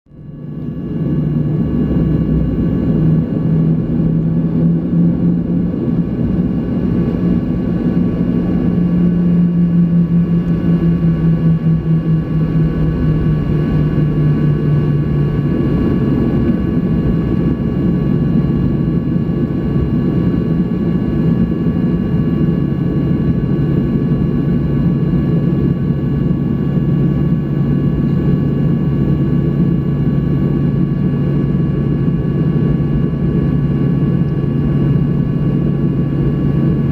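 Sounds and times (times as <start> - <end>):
engine hum: 0.1 - 36.9
jet engine cabin rumble: 0.1 - 36.9.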